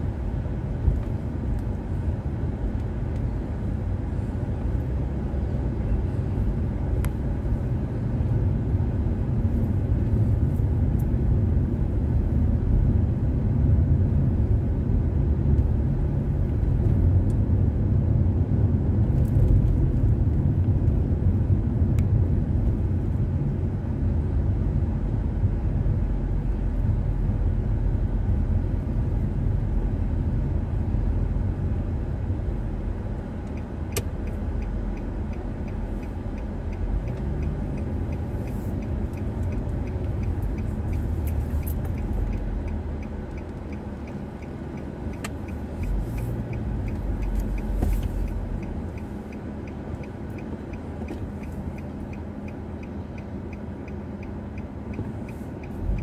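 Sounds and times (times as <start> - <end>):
engine and road noise rumble: 0.0 - 56.0
turn signal ticking: 0.0 - 56.0.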